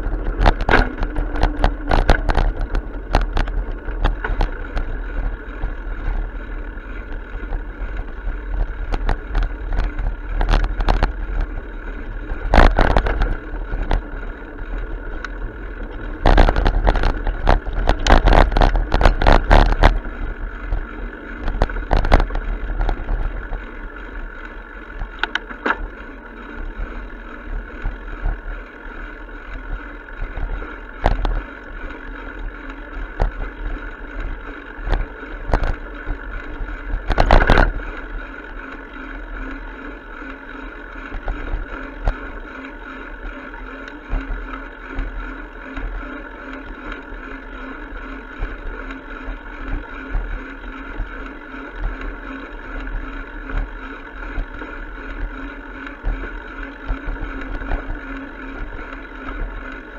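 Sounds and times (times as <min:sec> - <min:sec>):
bicycle clatter: 0:00.0 - 0:59.9
bicycle clicks and rattles: 0:00.0 - 0:59.9
bicycle rolling rumble: 0:00.0 - 0:59.9.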